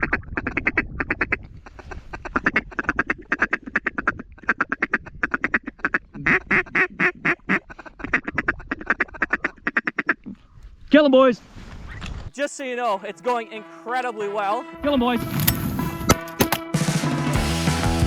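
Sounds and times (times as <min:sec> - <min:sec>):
duck quacking: 0:00.0 - 0:10.4, 0:12.4 - 0:16.5.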